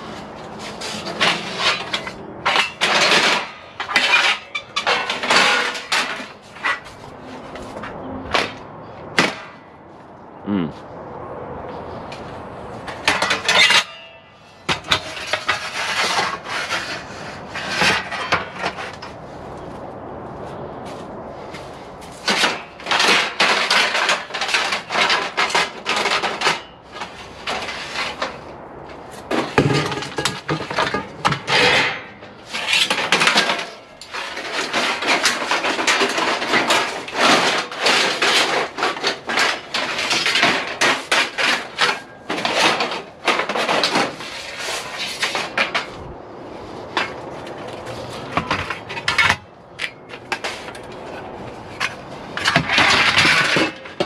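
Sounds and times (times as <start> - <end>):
aluminum lengths clanking: 0.0 - 9.8, 12.8 - 19.2, 22.0 - 46.1, 46.7 - 54.0.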